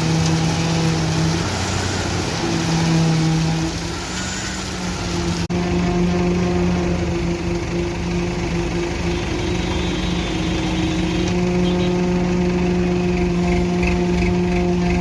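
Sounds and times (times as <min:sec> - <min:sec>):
large engine droning: 0:00.0 - 0:15.0.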